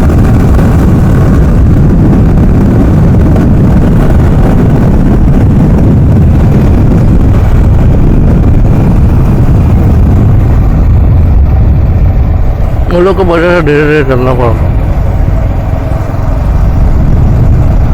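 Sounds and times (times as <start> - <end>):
motorcycle road noise: 0.0 - 17.9
wind buffeting microphone: 0.0 - 17.9.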